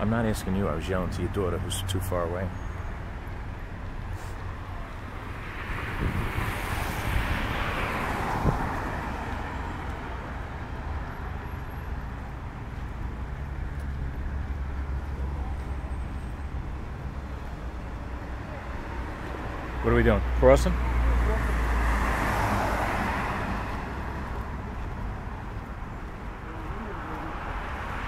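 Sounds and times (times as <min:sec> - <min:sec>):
low rumble of traffic: 0:00.0 - 0:28.0.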